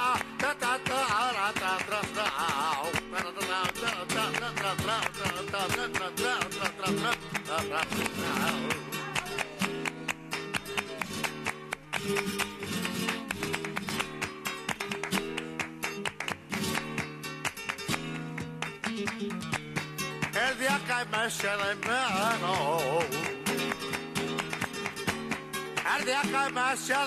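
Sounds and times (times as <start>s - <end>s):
flamenco guitar music: 0.0s - 27.0s.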